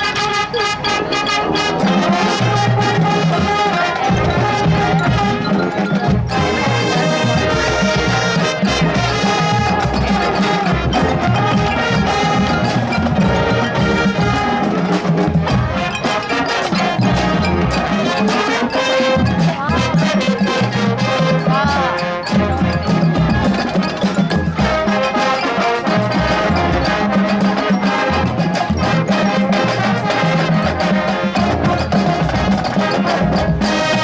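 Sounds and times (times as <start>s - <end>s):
mallet percussion: 0.0s - 34.0s
marching band playing: 0.0s - 34.0s
percussion beat: 0.0s - 34.0s.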